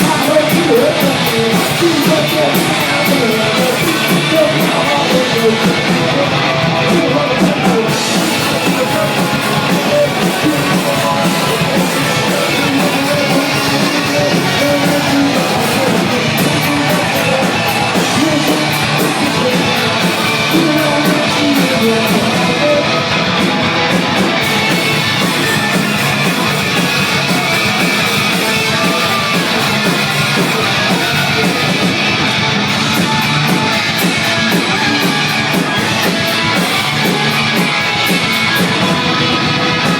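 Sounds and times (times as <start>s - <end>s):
rock band playing loud: 0.0s - 39.9s.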